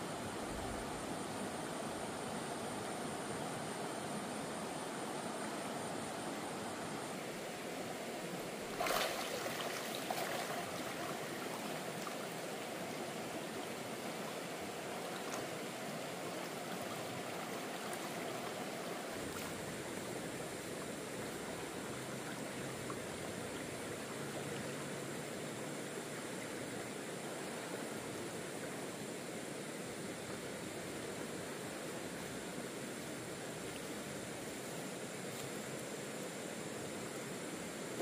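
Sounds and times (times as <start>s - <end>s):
stream rushing: 0.0s - 38.0s.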